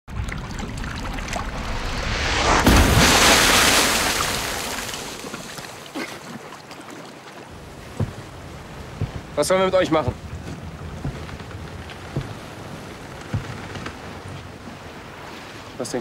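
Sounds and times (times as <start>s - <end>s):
sea rumbling: 0.0s - 16.0s
wind: 0.0s - 16.0s
water splashing: 0.1s - 16.0s
water spluttering: 0.1s - 16.0s.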